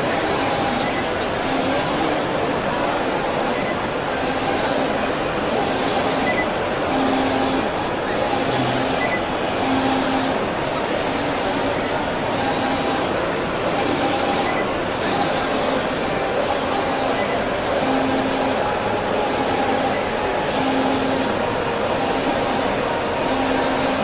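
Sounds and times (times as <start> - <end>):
printer mechanical hiss: 0.0 - 24.0.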